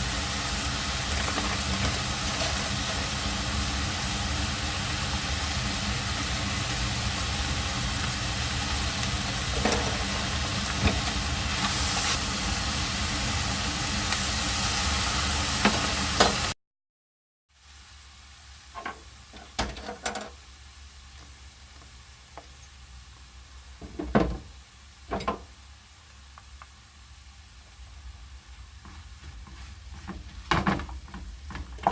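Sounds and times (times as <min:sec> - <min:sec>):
food sizzling in a pan: 0:00.0 - 0:16.6, 0:17.5 - 0:31.9.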